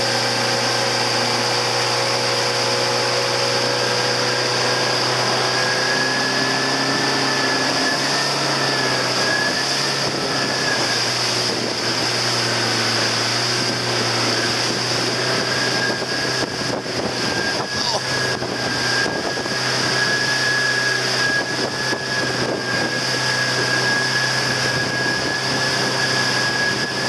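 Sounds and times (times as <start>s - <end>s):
boat wake hissing: 0.0s - 27.0s
motorboat engine droning: 0.0s - 27.0s.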